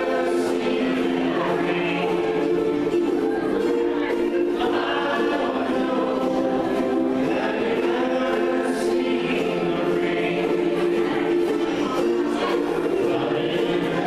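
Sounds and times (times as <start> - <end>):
many voices singing in unison: 0.0 - 14.0
ukuleles strumming: 0.0 - 14.0.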